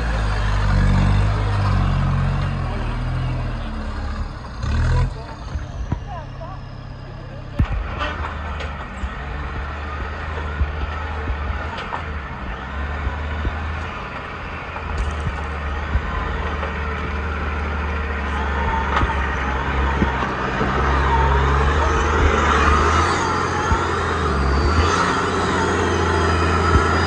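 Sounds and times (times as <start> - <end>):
truck engine droning: 0.0 - 27.0.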